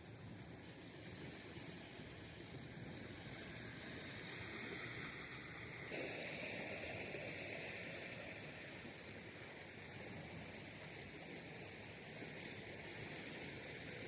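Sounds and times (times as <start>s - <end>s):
faint outdoor background hiss: 0.0s - 14.0s.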